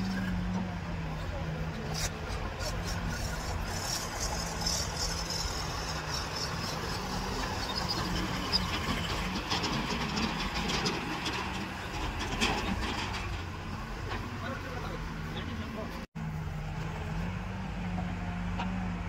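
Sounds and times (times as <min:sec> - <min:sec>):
diesel engines humming: 0:00.0 - 0:19.0.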